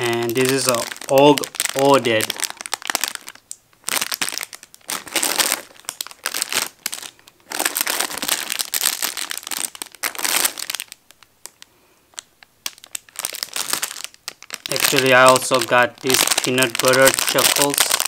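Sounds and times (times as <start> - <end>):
plastic wrappers crinkling: 0.0 - 18.0.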